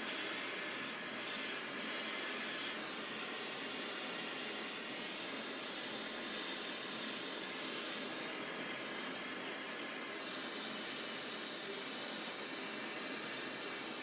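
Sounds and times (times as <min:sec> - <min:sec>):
torch flame hissing: 0:00.0 - 0:14.0.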